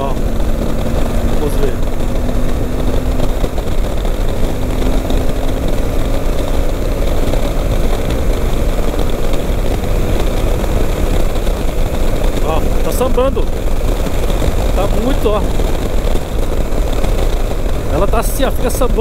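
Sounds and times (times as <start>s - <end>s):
loud wind rush: 0.0s - 19.0s
motorcycle engine drone: 0.0s - 19.0s.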